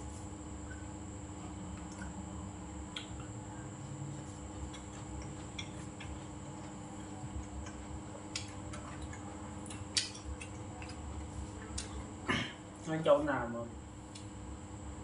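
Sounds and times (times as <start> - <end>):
steady hum: 0.0 - 15.0
man chewing food: 0.1 - 12.3.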